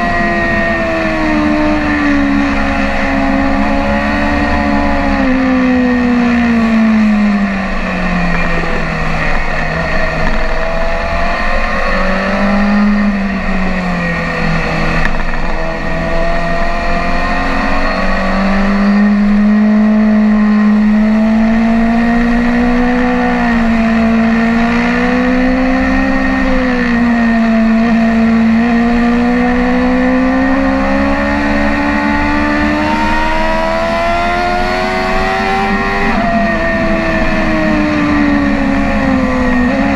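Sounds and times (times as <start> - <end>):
motorcycle engine at track speed: 0.0 - 39.9.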